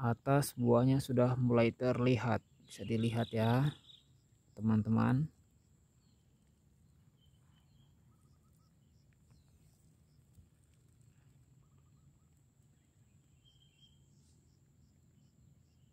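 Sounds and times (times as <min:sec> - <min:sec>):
distant bird calls: 0:00.0 - 0:15.9
high insect drone: 0:00.8 - 0:15.9.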